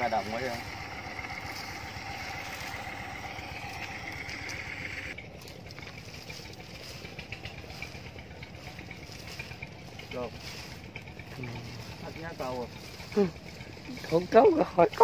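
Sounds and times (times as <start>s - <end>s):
high engine whine: 0.0s - 15.0s
walk-behind tractor engine running: 0.0s - 15.0s.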